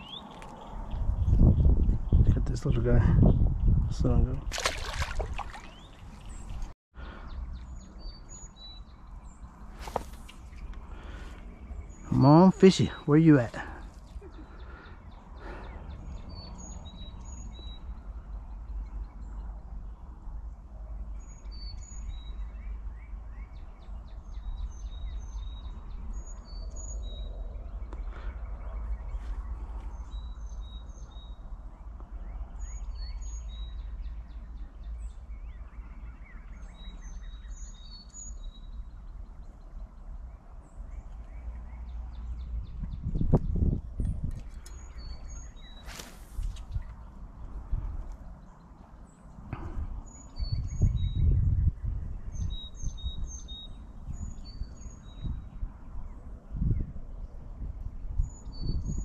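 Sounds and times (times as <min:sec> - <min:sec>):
birds chirping: 0:00.0 - 0:55.4.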